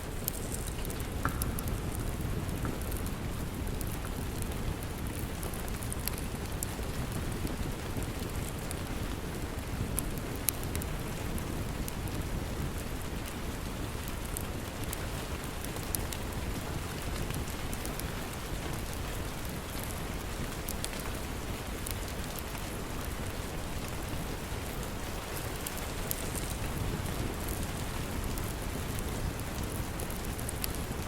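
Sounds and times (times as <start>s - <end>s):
steady rain: 0.0s - 31.0s
wood fire crackling: 0.0s - 31.0s.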